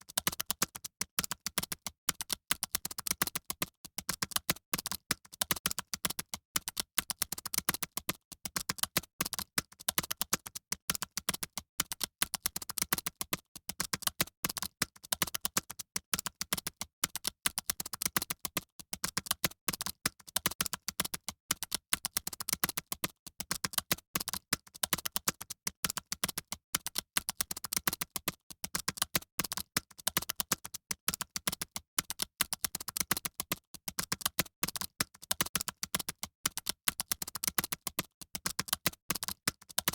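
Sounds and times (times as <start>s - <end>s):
fast typing on keyboards: 0.0s - 39.9s.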